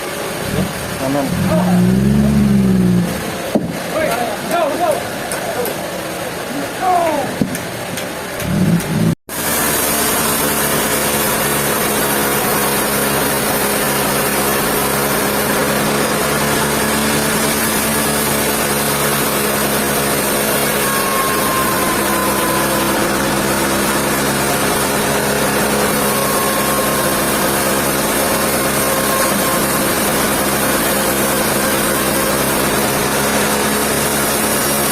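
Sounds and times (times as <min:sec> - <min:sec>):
sawmill machinery humming: 0:00.0 - 0:34.9.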